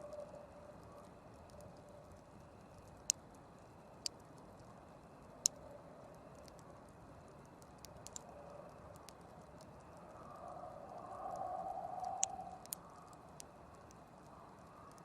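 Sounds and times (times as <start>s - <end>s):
soft steady hiss: 0.0s - 15.0s
campfire crackling and popping: 0.7s - 15.0s.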